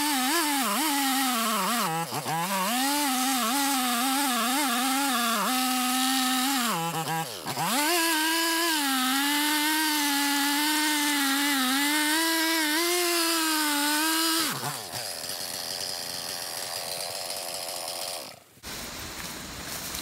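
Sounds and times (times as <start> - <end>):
chainsaw cutting log: 0.0 - 18.7.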